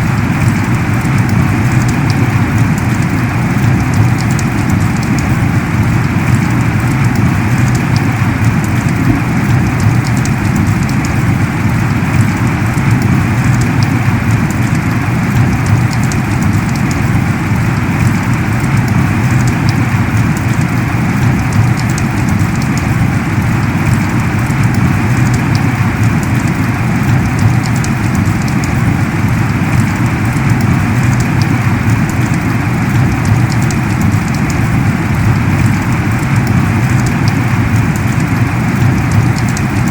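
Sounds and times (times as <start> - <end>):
heavy rain falling: 0.0 - 39.9
raindrop ticks: 0.0 - 39.9.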